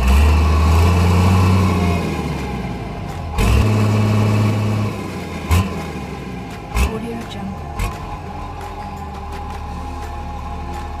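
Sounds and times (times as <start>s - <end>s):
low engine-like drone: 0.0s - 11.0s.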